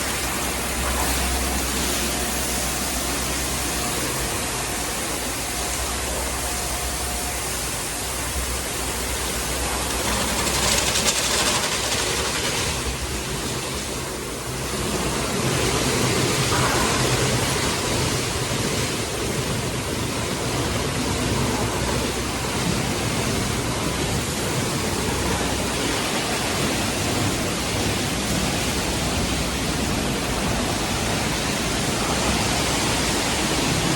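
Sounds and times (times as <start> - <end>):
low machine hum: 0.0 - 33.9
water spray rushing: 0.0 - 33.9.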